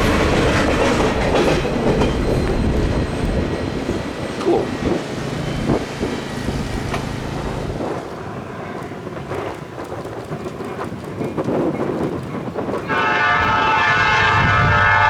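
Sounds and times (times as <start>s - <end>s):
freight train rolling past: 0.0s - 15.0s
knocks and clanks of train cars: 0.0s - 15.0s
wind on microphone: 0.0s - 15.0s.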